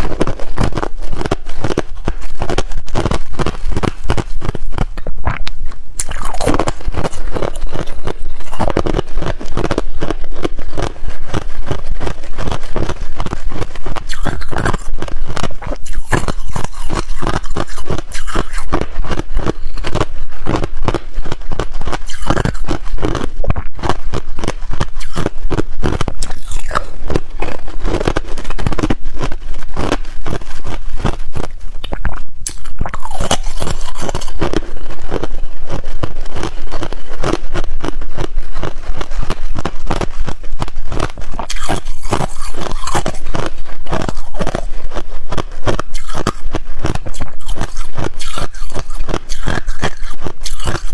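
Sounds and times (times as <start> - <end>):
ice cracking and crunching in teeth: 0.0 - 50.9.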